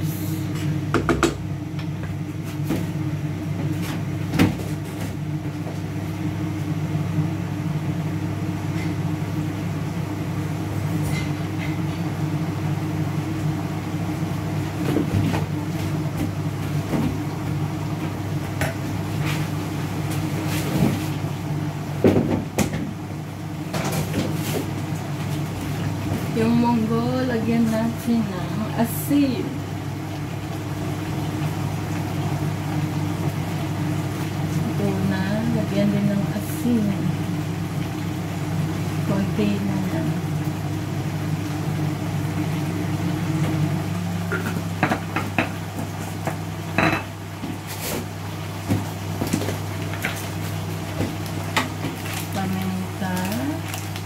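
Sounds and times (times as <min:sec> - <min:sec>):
kitchen appliance humming: 0:00.0 - 0:54.0.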